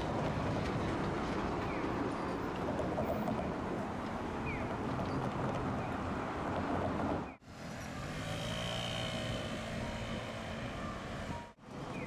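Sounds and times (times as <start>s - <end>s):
streetcar running past: 0.0s - 12.0s
traffic passing: 0.0s - 12.0s.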